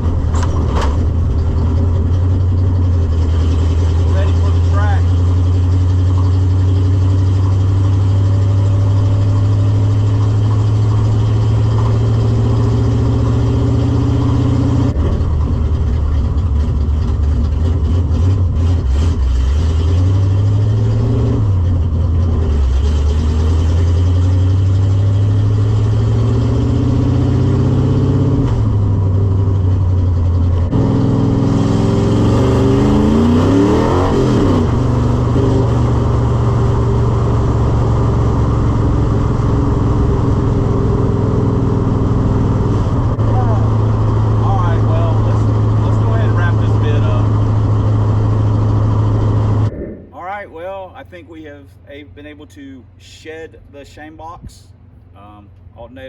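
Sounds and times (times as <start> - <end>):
car engine revving: 0.0 - 53.1.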